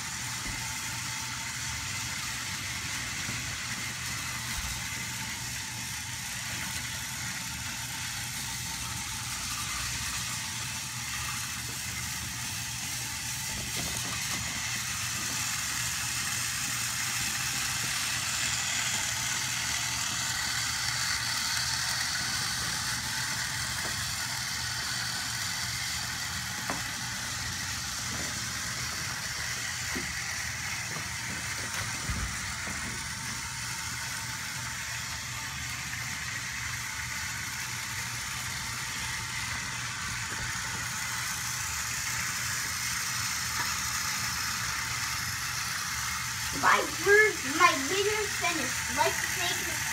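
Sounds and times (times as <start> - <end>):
toy train motors whirring: 0.0 - 49.9.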